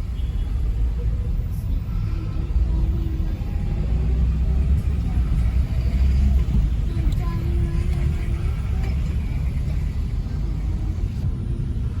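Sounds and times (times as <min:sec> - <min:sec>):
car rumble from inside cabin: 0:00.7 - 0:12.0.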